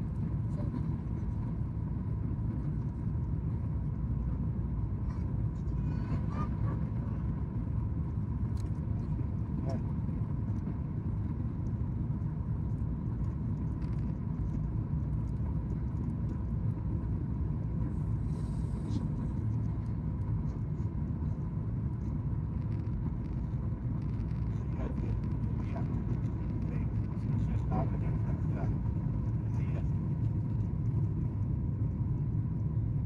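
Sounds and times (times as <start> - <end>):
airplane cabin rumble: 0.0 - 33.0.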